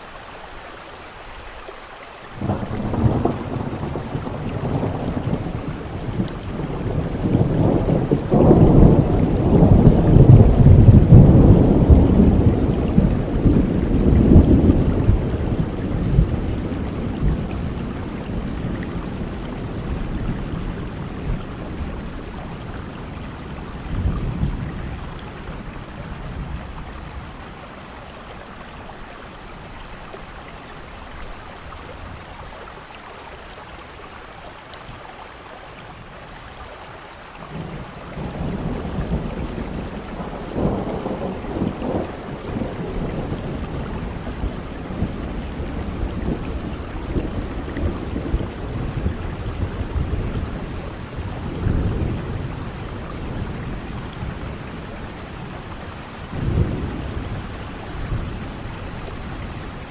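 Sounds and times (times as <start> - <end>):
rain hissing: 0.0 - 59.9
low rolling thunder: 2.4 - 28.0, 37.4 - 59.9.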